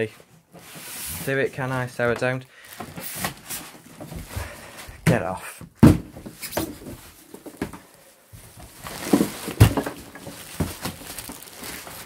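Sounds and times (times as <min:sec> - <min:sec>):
cardboard and plastic rustling: 0:00.0 - 0:12.0.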